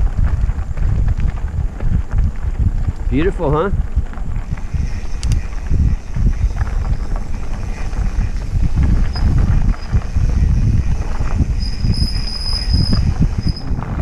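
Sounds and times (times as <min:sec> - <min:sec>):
bike rattling over bumpy ground: 0:00.0 - 0:14.0
wind rumble on microphone: 0:00.0 - 0:14.0.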